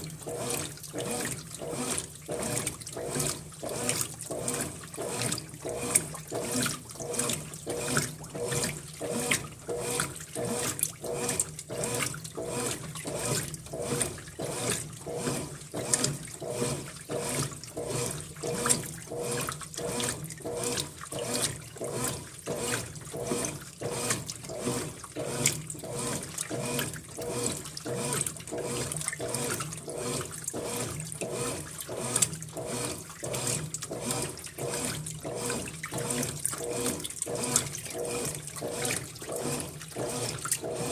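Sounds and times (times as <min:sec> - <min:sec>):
washing machine sloshing: 0:00.0 - 0:40.9.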